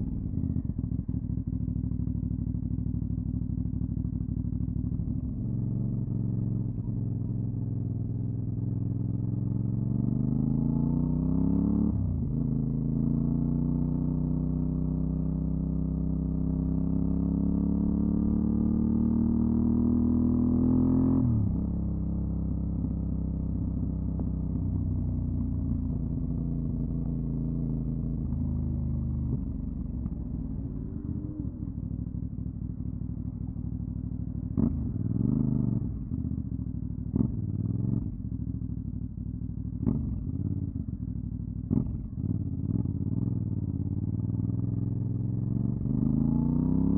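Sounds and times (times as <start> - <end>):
motorcycle engine accelerating: 0.0 - 39.0, 39.6 - 46.9.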